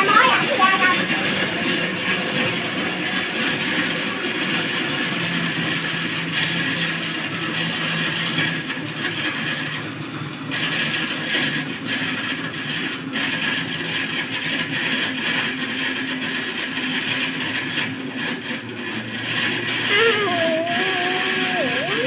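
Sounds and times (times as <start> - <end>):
machine running: 0.0 - 22.0.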